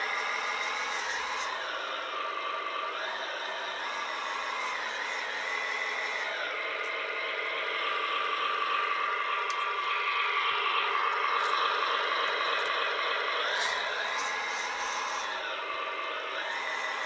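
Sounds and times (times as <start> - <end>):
simulated diesel engine on small speaker: 0.0 - 17.0.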